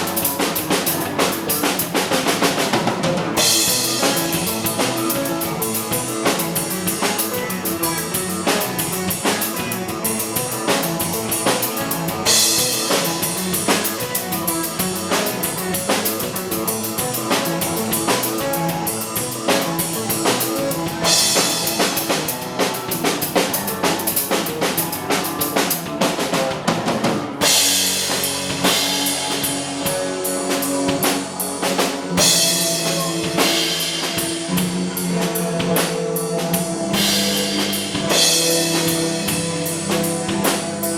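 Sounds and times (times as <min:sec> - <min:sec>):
live band playing loud music: 0:00.0 - 0:40.9.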